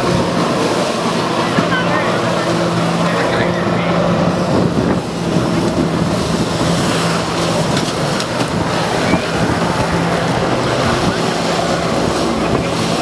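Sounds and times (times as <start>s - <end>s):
jet ski engine running: 0.0s - 13.0s
water jets rushing and splashing: 0.0s - 13.0s.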